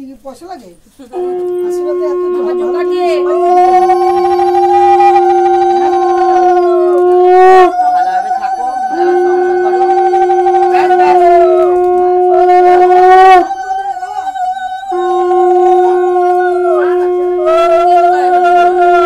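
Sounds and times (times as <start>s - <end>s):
conch shell high note: 1.1s - 19.0s
conch shell low note: 1.1s - 19.0s.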